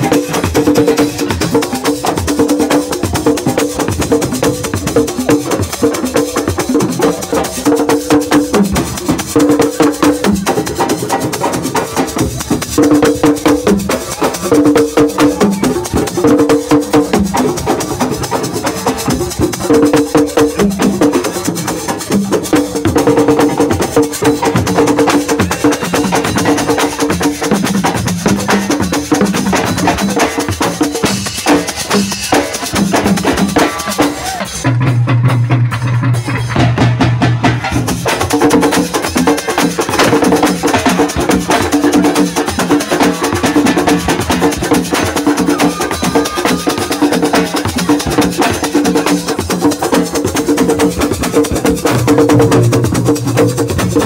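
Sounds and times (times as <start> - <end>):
fast dense percussion: 0.0 - 54.0.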